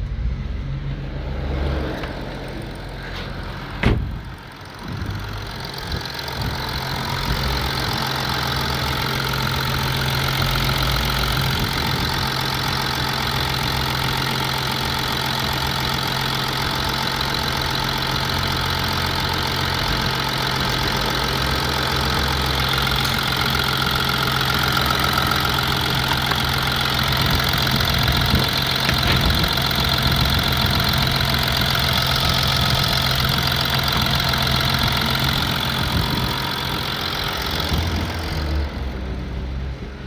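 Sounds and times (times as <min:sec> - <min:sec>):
diesel engine idling with knock: 0:01.8 - 0:40.0.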